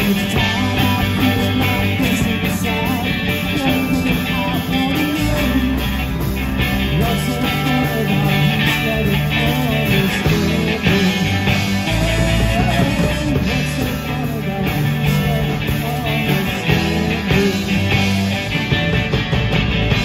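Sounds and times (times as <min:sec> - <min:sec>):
drum kit steady beat: 0:00.0 - 0:20.0
electric bass: 0:00.0 - 0:20.0
electric guitars: 0:00.0 - 0:20.0.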